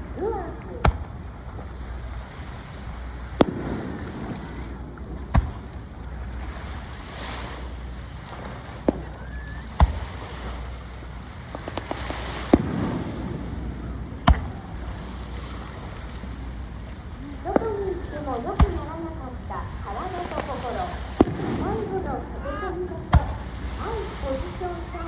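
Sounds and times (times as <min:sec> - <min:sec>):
fireworks bangs: 0:00.0 - 0:02.0, 0:03.2 - 0:16.4, 0:17.0 - 0:25.0
fireworks crackles: 0:00.0 - 0:15.4, 0:17.4 - 0:25.0
low background rumble: 0:00.0 - 0:25.0.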